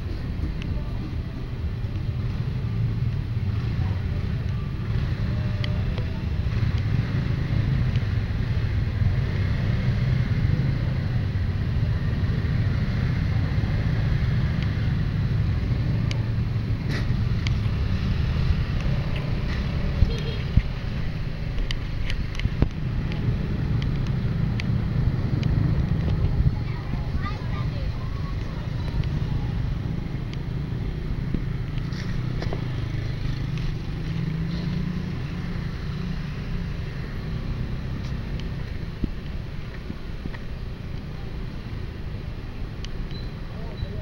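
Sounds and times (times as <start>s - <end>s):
motor scooters: 0.0s - 44.0s.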